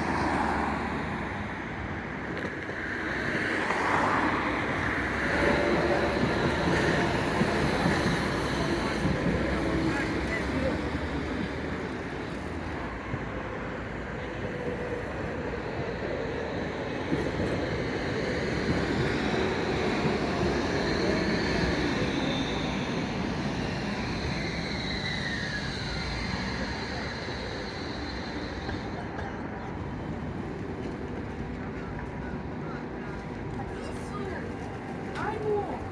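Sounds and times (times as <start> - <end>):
street traffic: 0.0 - 35.9.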